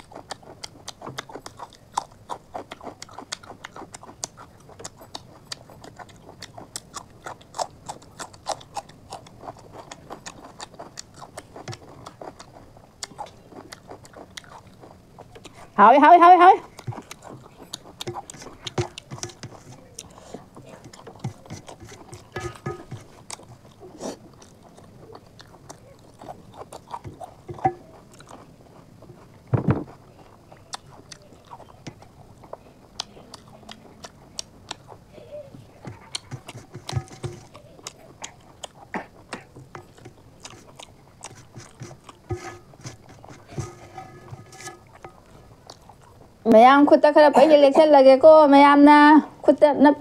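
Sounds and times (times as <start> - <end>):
chewing and biting food: 0.0 - 15.8, 16.6 - 46.5.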